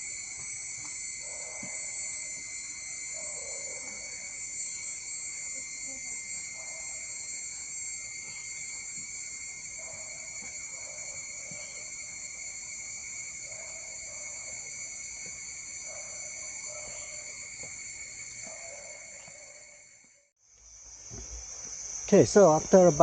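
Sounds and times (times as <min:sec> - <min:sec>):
chorus of insects: 0:00.0 - 0:23.0.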